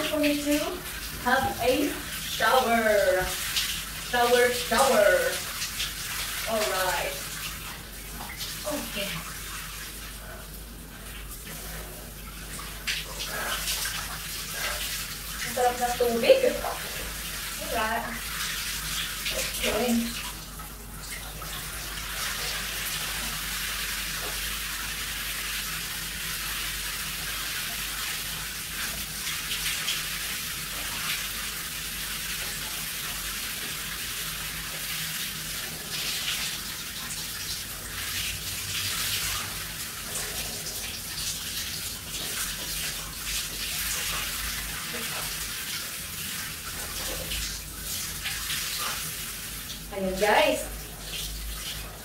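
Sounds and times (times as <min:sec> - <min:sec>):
shower water splashing: 0:00.0 - 0:52.0.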